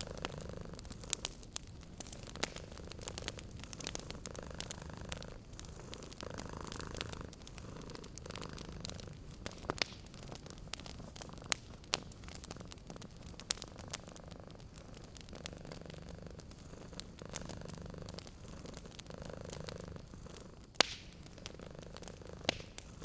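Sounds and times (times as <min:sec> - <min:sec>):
cat purring: 0:00.0 - 0:23.0
wood fire crackling: 0:00.0 - 0:23.0.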